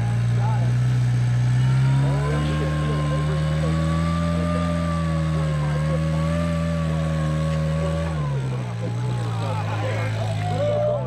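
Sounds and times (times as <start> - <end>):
buggy engine running: 0.0 - 11.0.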